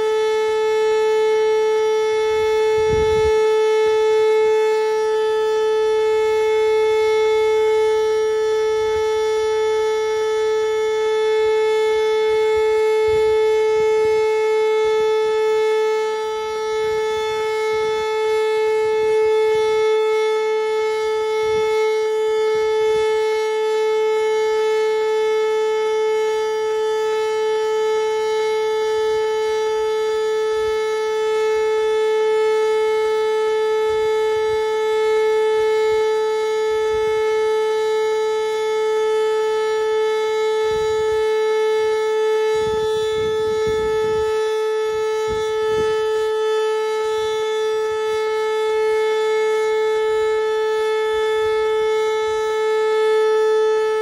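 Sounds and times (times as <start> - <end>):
steady warning siren: 0.0 - 54.0.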